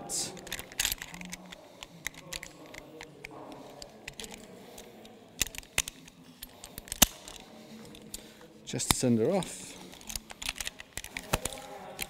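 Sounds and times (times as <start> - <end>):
metal carabiners clicking and clinking: 0.2 - 12.0.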